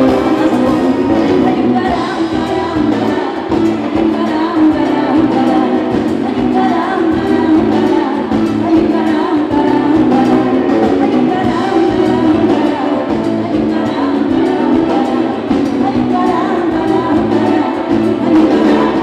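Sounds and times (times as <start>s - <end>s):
acoustic guitar: 0.0s - 19.0s
bass: 0.0s - 19.0s
drums: 0.0s - 19.0s
woman singing lead: 0.0s - 19.0s.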